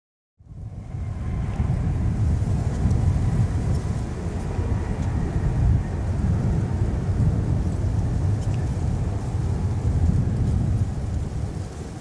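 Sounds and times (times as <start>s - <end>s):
distant jet engines rumbling: 0.4s - 12.0s.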